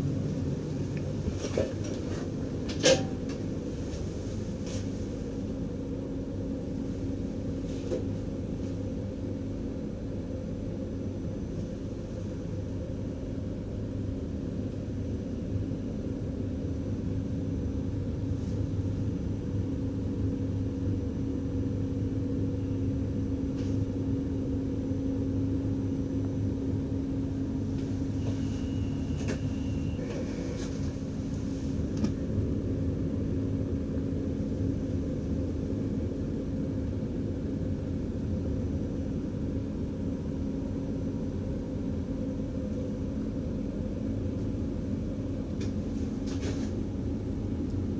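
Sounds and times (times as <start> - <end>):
electric train rumbling: 0.0 - 47.9.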